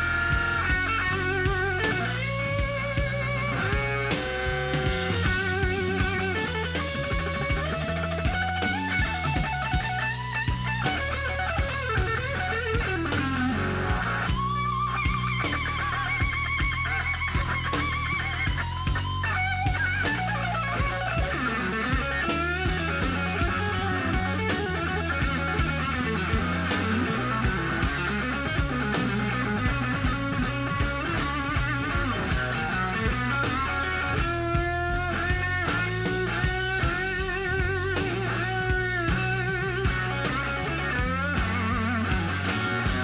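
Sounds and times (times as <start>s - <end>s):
bass and drums: 0.0s - 43.0s
electric guitar blues solo: 0.0s - 43.0s.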